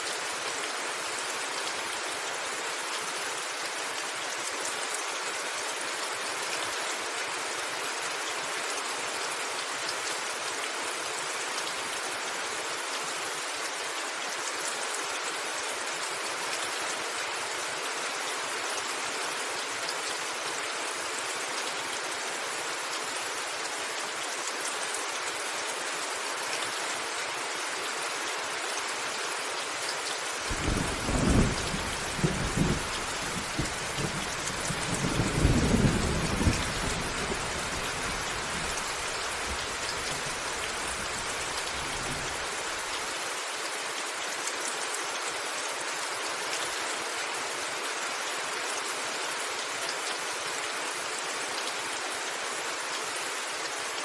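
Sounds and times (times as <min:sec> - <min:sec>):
rain falling on a roof: 0:00.0 - 0:54.0.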